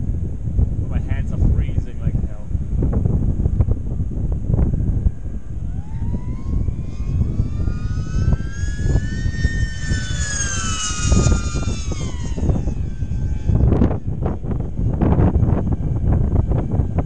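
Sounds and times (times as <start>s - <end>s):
electric propeller whine: 0.0s - 17.0s
wind buffeting microphone: 0.0s - 17.0s.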